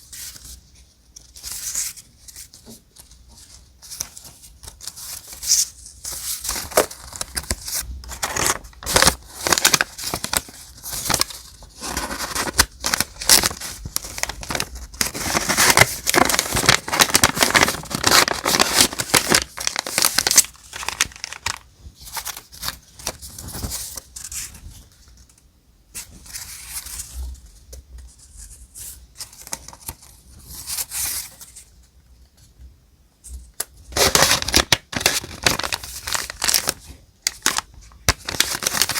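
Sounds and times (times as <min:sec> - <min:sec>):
paper rustling and crinkling: 0:00.0 - 0:27.5, 0:28.1 - 0:31.8, 0:33.8 - 0:38.9.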